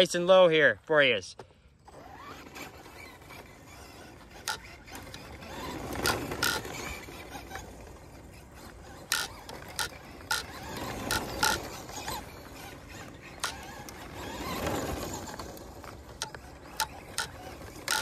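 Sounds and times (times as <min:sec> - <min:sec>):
rc car motor whirr: 0:01.7 - 0:18.0
sharp mechanical clicks and rattles: 0:01.9 - 0:18.0.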